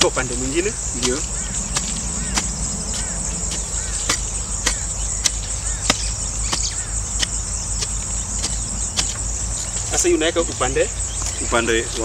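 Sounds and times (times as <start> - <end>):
hoe chopping into soil: 0.0 - 10.1
high insect drone: 0.0 - 12.0.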